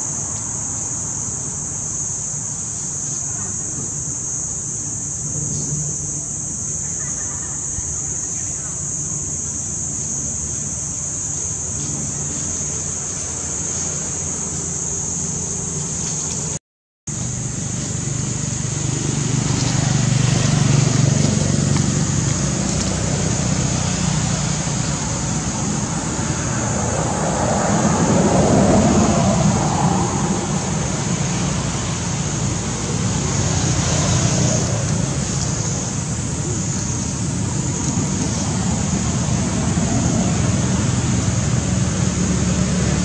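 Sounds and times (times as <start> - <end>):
high-pitched hiss: 0.0 - 43.0.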